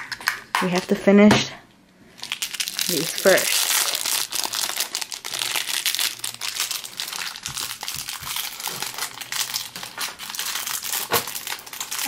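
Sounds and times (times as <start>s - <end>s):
foil wrapper crumpling: 2.2s - 12.0s.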